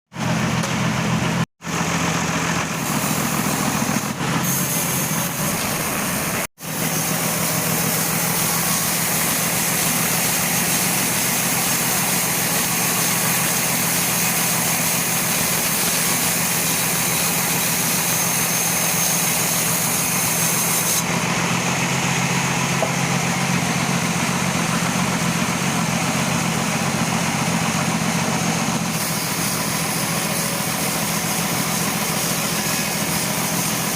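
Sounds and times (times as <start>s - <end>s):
sawmill engine hum: 0.1s - 33.9s
saw blade hissing through wood: 2.7s - 33.9s.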